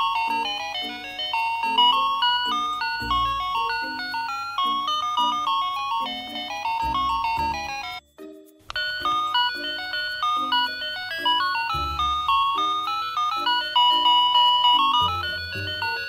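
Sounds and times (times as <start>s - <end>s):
electronic beeping toy tune: 0.0s - 8.1s, 8.7s - 16.0s.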